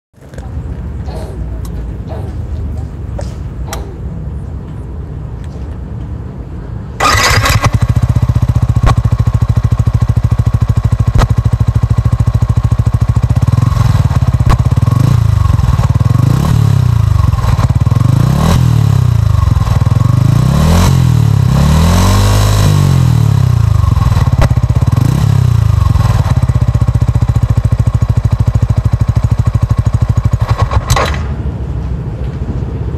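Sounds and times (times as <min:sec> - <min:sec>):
motorcycle engine idling and revving: 0:00.2 - 0:32.9.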